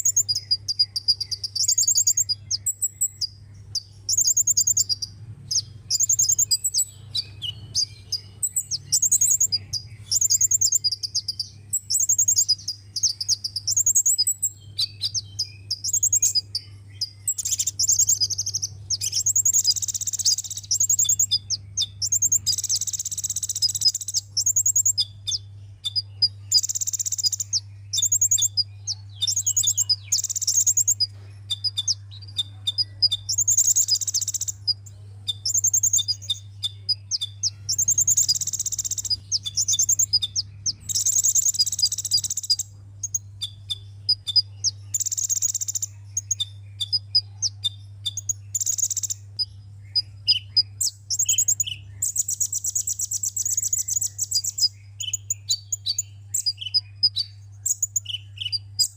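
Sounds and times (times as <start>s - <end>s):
buzzy bird trills: 0.0s - 58.9s
high thin bird chirps: 0.0s - 58.9s.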